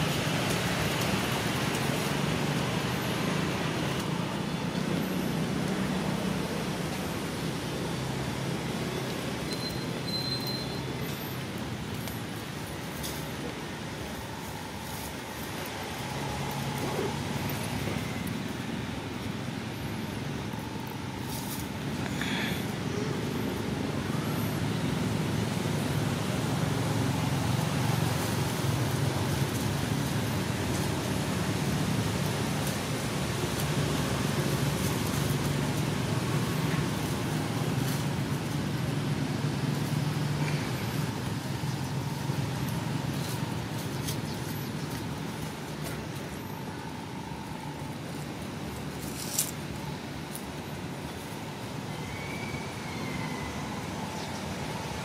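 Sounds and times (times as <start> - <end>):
road traffic with engine hum: 0.0 - 55.0.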